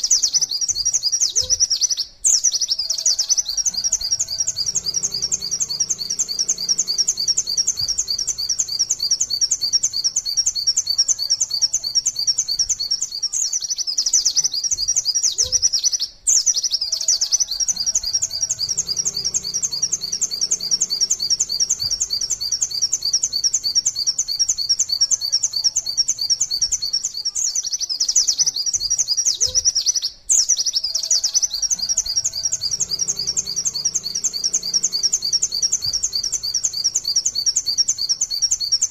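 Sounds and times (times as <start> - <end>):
bird singing high sharp notes: 0.0 - 38.9.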